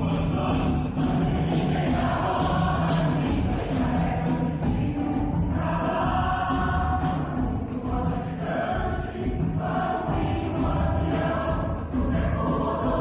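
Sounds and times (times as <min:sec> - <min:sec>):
choir singing sustained chords: 0:00.0 - 0:13.0
light regular beat: 0:00.0 - 0:13.0
musical accompaniment: 0:00.0 - 0:13.0.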